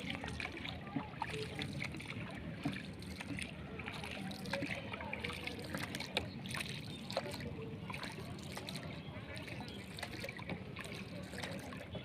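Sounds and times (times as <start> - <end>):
faint voices: 0.0 - 12.0
water splashing around boat: 0.0 - 12.0.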